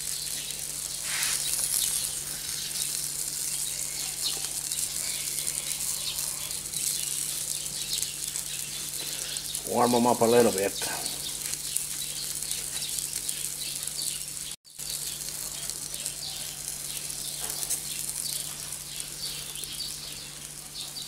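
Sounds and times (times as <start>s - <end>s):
meat sizzling and crackling: 0.0s - 21.0s.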